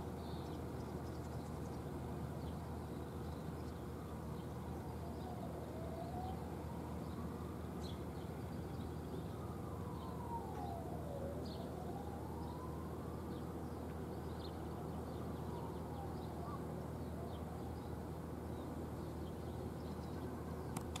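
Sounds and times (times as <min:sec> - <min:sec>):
city traffic hum: 0:00.0 - 0:21.0
faint siren wailing: 0:02.1 - 0:20.7.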